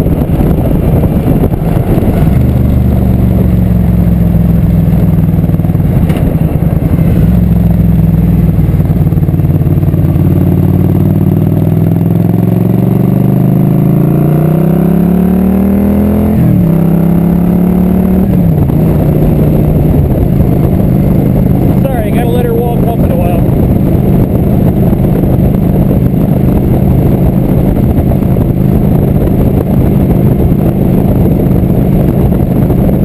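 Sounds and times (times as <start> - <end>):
motorcycle engine accelerating: 0.0 - 33.0
wind noise on microphone: 0.0 - 33.0.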